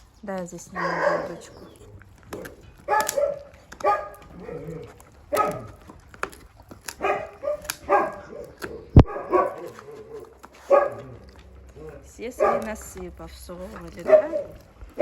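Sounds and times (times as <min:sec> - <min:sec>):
wolves whining yelps: 0:00.7 - 0:15.0.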